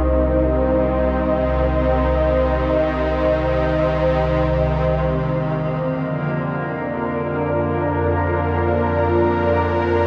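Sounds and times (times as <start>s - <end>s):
ambient music with sustained chords: 0.0s - 10.0s.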